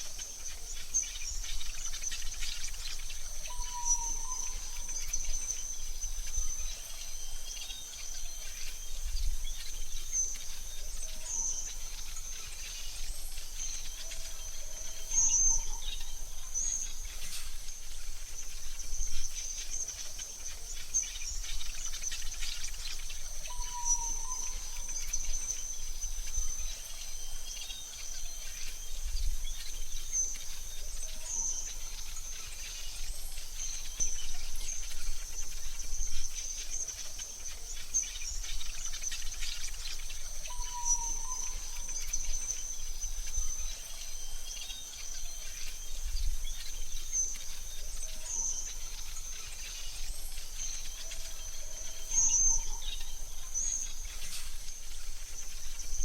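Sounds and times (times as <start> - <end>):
bird chirps: 0.0 - 56.0
insect drone: 0.0 - 56.0.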